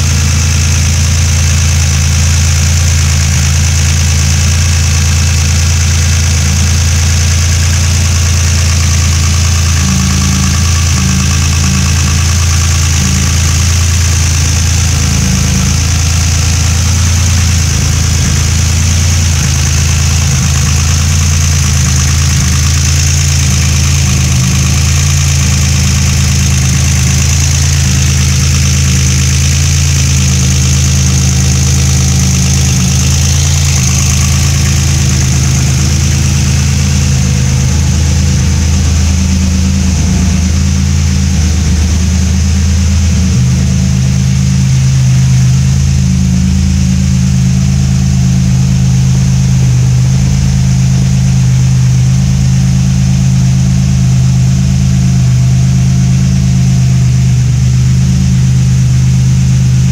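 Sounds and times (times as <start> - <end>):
engine idling with high hiss: 0.0 - 59.9.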